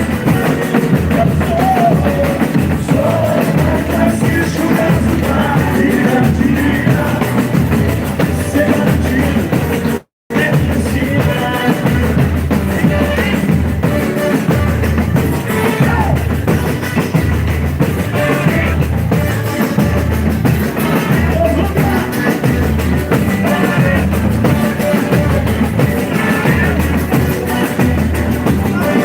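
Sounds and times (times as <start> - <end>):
band and percussion over sound system: 0.0 - 29.0
lead voice singing: 0.0 - 29.0.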